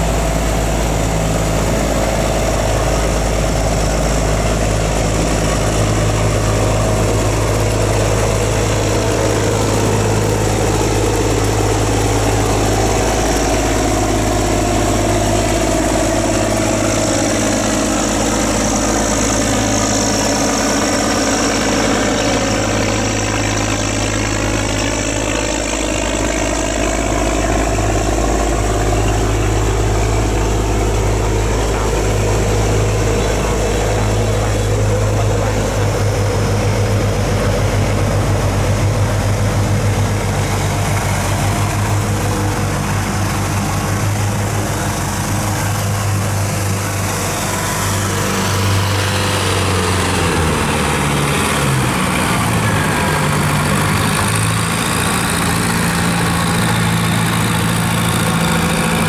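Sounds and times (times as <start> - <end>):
barge diesel engine drone: 0.0 - 59.0
passing speedboat engine: 0.0 - 59.0.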